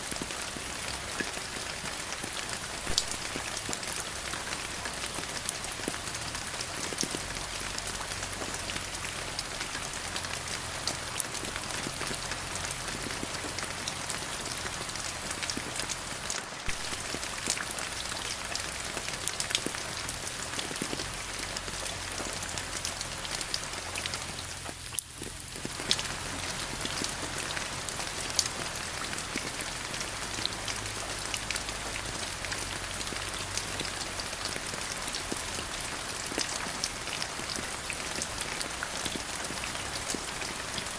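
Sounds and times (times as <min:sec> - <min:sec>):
rain drops ticking: 0:00.0 - 0:40.9.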